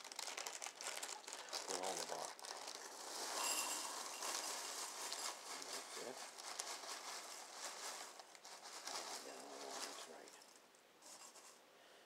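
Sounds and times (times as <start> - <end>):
cereal flakes pattering: 0.0 - 10.4
plastic bag rustling and crinkling: 0.0 - 11.6.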